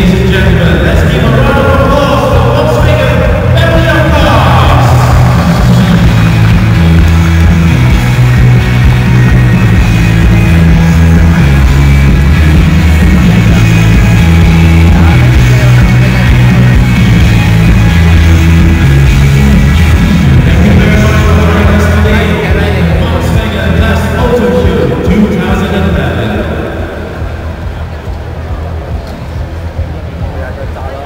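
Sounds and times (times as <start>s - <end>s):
loud rock music: 0.0s - 30.4s.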